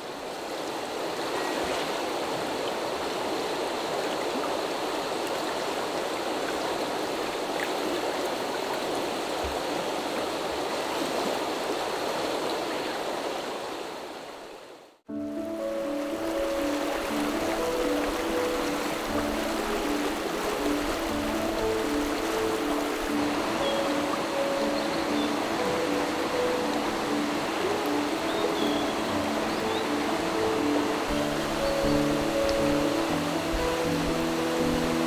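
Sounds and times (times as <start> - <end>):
river rushing over stones: 0.0 - 35.0.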